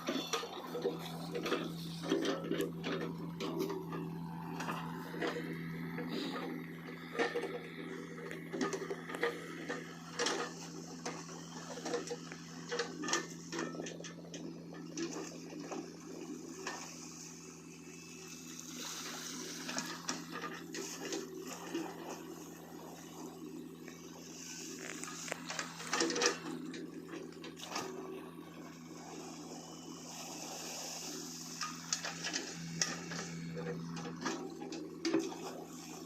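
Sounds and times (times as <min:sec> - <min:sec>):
excavator engine humming: 0:00.0 - 0:36.0.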